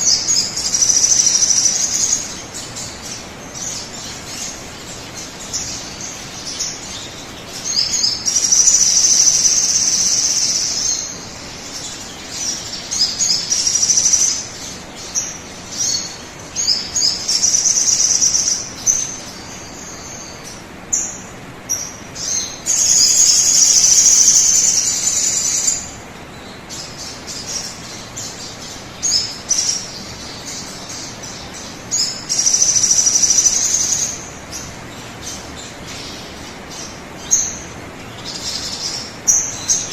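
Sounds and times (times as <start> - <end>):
bird singing high phrases: 0.0 - 39.9
steady background hiss: 0.0 - 39.9.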